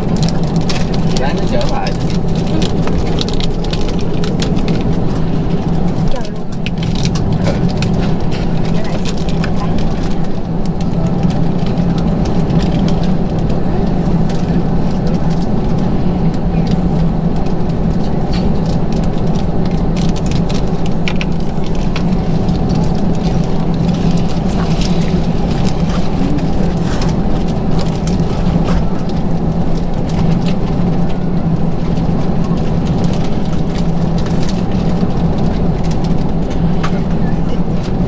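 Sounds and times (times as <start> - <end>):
aircraft cabin drone: 0.0 - 38.0.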